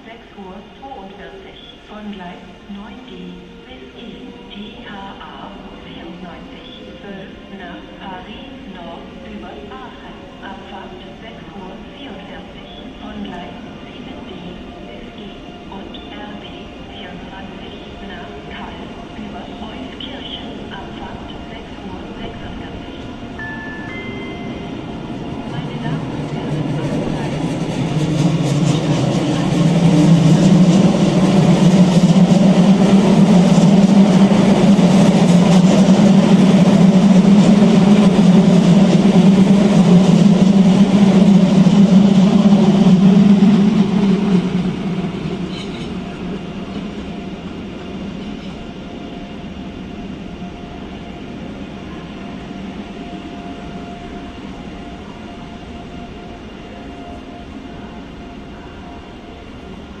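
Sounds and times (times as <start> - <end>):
electric train passing: 0.6 - 60.0.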